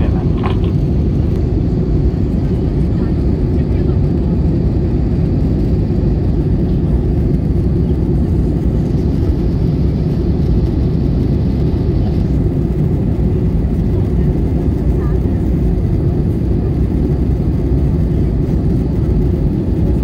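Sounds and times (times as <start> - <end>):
jet airliner cabin drone: 0.0 - 20.0.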